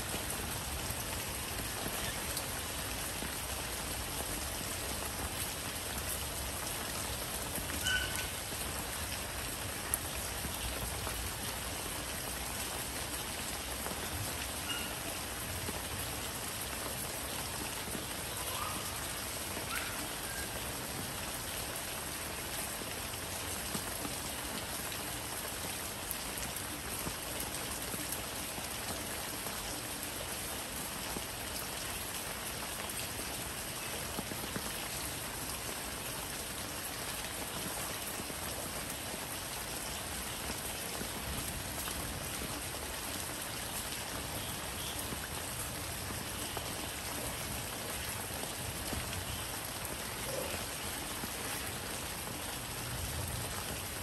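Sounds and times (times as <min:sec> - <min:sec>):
rain falling on leafy plants: 0:00.0 - 0:54.0.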